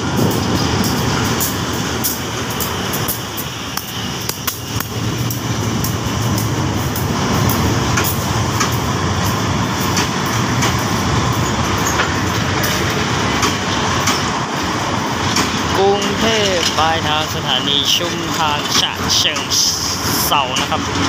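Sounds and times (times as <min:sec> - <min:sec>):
train coaches rumbling past: 0:00.0 - 0:21.0
train wheels clicking over rails: 0:00.0 - 0:21.0.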